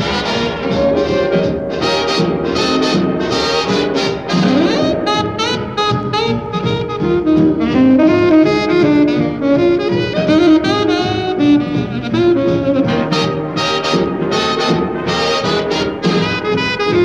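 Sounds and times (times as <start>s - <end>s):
jazz music with saxophone and brass: 0.0s - 17.0s.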